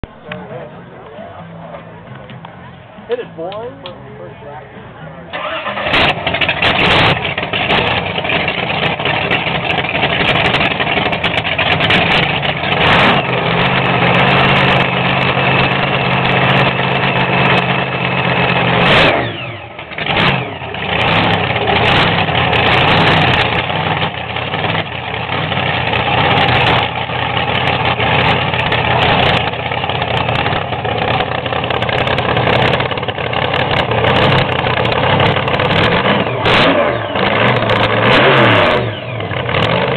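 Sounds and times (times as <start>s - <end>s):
race car engine rough idle: 5.2s - 39.9s.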